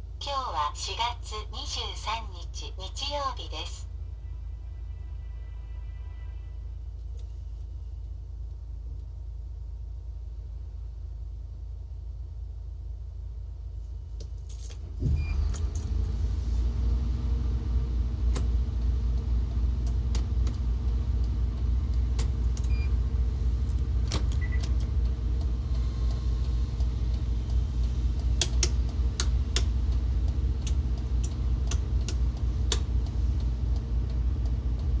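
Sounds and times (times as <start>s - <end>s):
diesel bus engine idling: 0.0s - 14.2s, 14.8s - 35.0s.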